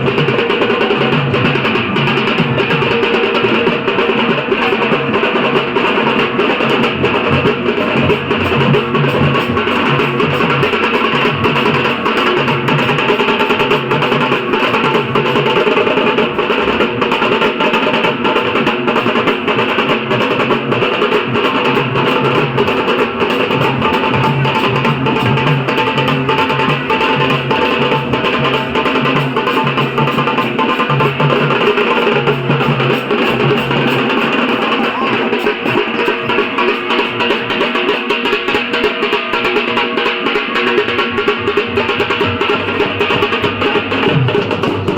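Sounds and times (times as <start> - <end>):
big drums beat pattern: 0.0 - 44.9
high drums rapid strokes: 0.0 - 44.9.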